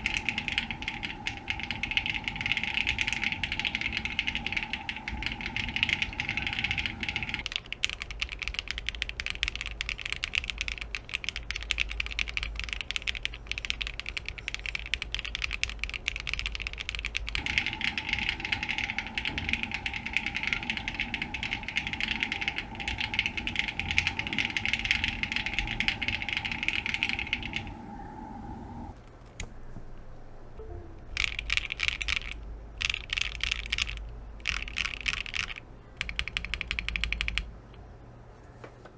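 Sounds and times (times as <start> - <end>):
mechanical keyboard typing: 0.0 - 28.4, 31.1 - 37.5.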